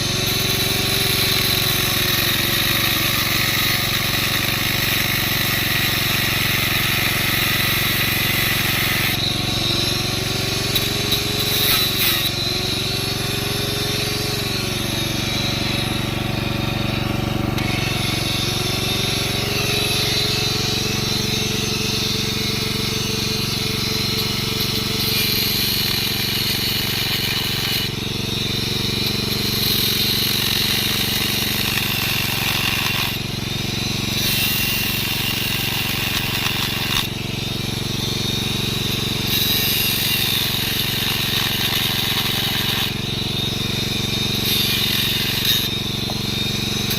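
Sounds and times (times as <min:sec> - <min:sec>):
angle grinder grinding metal: 0:00.0 - 0:46.9.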